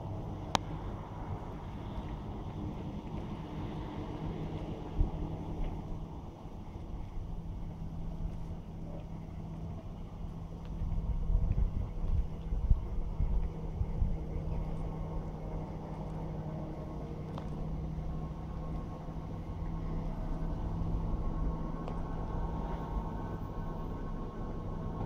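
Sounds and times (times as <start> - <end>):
steady low hum: 0.0 - 25.0
wind buffeting microphone: 0.0 - 25.0.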